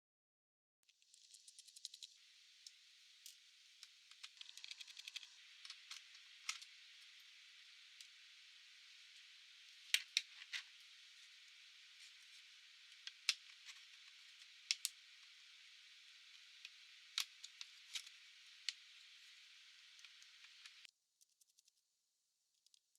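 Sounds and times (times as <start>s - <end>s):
steady hiss: 1.0s - 20.9s.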